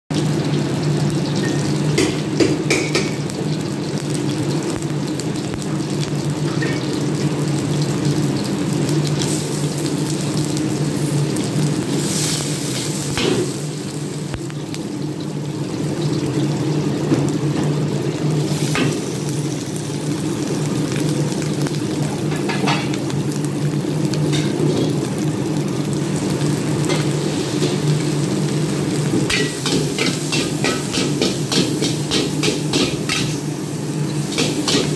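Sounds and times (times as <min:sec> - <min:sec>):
food sizzling in a wok: 0:00.1 - 0:34.9
gas burner roaring: 0:00.1 - 0:34.9.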